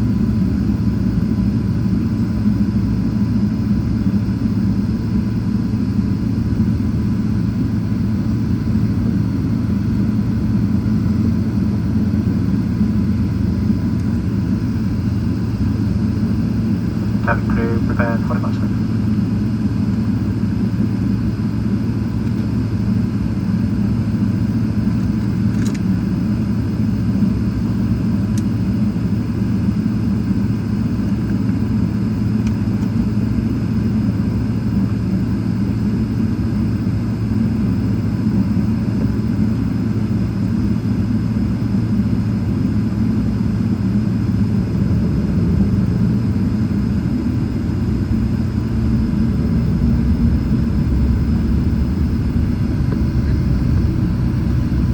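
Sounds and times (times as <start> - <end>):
aircraft cabin engine rumble: 0.0 - 54.9.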